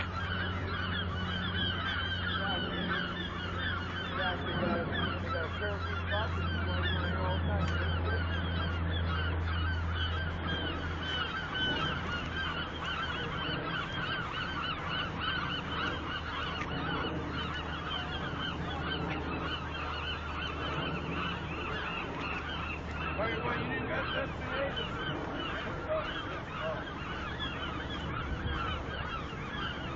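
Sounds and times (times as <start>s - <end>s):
flock of birds calling: 0.0s - 29.9s
low steady hum: 0.0s - 29.9s.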